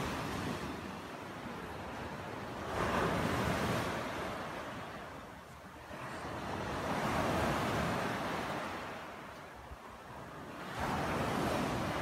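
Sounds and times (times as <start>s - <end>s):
small waves breaking on a beach: 0.0s - 12.0s.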